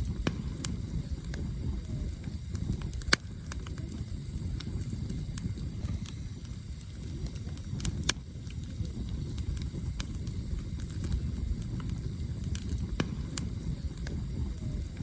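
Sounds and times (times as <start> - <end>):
campfire wood crackling: 0.0 - 15.0
rush of flame: 0.0 - 15.0.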